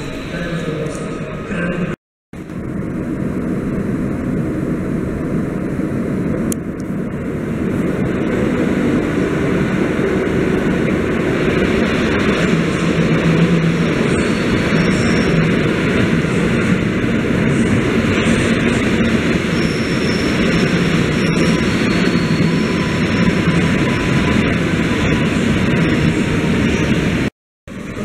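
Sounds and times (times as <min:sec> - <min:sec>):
train rumbling into station: 0:00.0 - 0:28.0.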